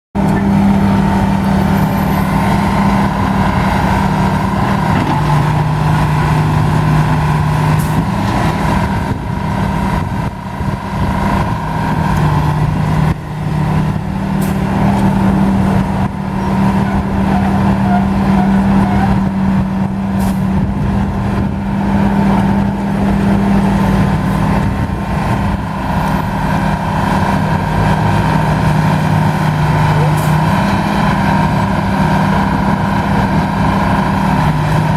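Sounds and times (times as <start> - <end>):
shovel engine running: 0.2 - 34.9.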